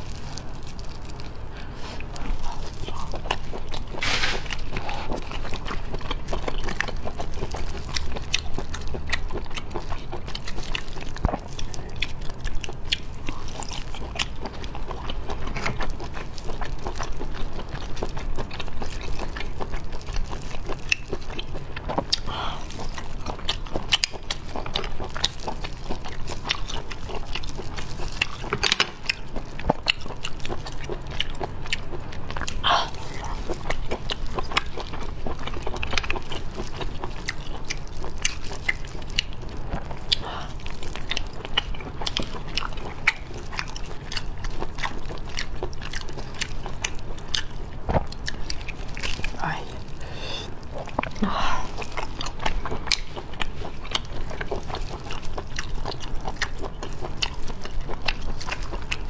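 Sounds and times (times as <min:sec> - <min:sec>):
wet chewing and slurping: 0:00.0 - 0:59.0.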